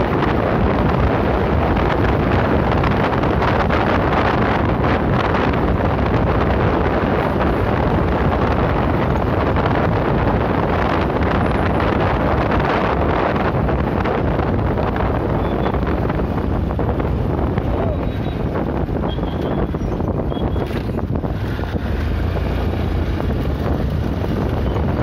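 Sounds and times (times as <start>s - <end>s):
motorcycle ride rumble: 0.0s - 25.0s
wind rushing over microphone: 0.0s - 25.0s.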